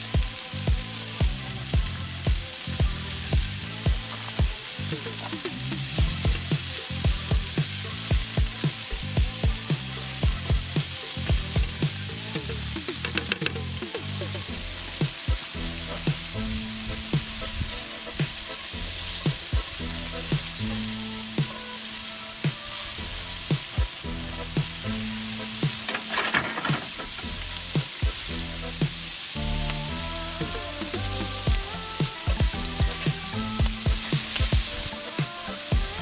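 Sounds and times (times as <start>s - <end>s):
background music with low notes: 0.0s - 36.0s
food sizzling in a hot pan: 0.0s - 36.0s
stirring strokes in a pan: 0.0s - 36.0s.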